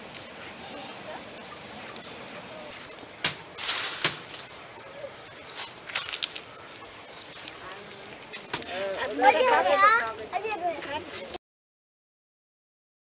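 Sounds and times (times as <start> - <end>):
dry leaves crackling and rustling: 0.0 - 11.4.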